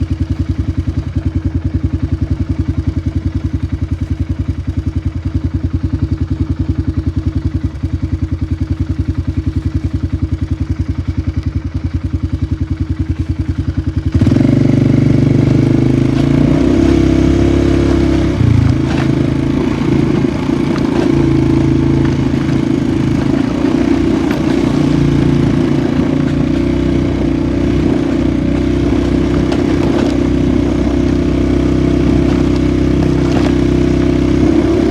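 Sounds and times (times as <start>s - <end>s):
engine clatter: 0.0s - 34.9s
quad bike engine: 0.0s - 34.9s.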